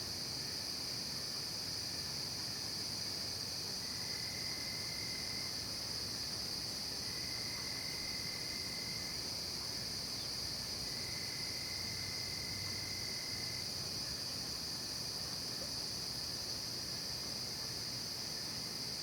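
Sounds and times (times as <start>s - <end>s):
crickets and insects singing: 0.0s - 19.0s.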